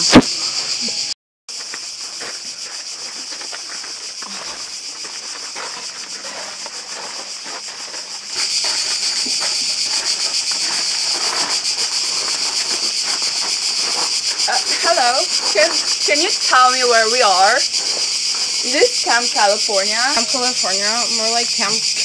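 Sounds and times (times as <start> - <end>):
cicadas singing: 0.0 - 22.0.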